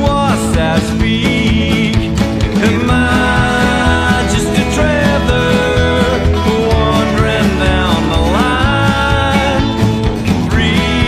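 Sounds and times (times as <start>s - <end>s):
plucked guitar: 0.0s - 11.0s
steady bass beat: 0.0s - 11.0s.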